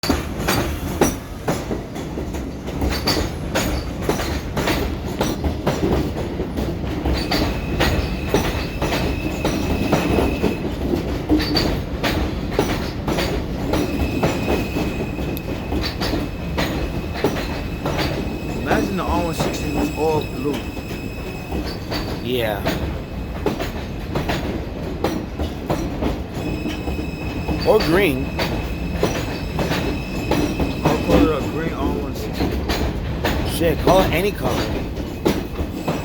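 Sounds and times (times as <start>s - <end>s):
train wheels clattering over rail joints: 0.0s - 36.0s.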